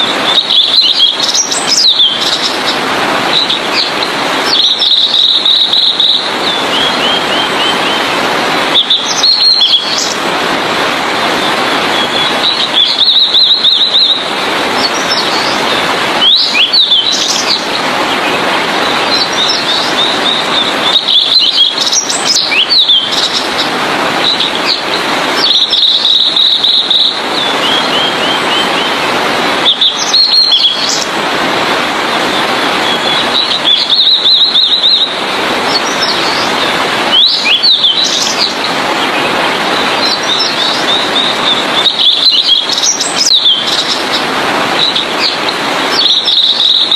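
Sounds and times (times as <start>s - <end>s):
loud steady hiss: 0.0s - 46.9s
bird singing high chirps: 0.2s - 8.1s, 8.7s - 10.2s, 12.0s - 29.0s, 29.6s - 31.1s, 32.3s - 44.2s, 44.8s - 46.9s.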